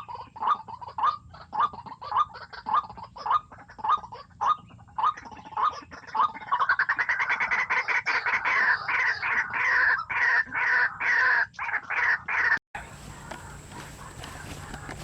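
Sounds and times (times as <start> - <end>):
waterhen harsh croaking calls: 0.0 - 15.0.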